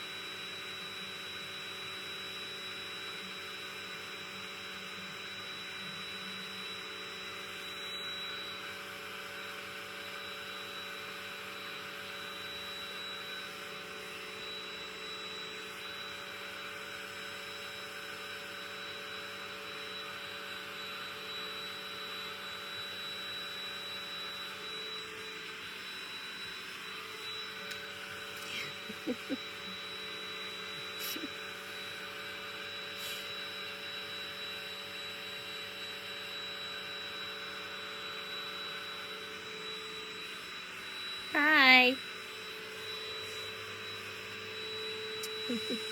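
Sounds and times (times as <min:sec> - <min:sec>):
vacuum cleaner whining: 0:00.0 - 0:45.9.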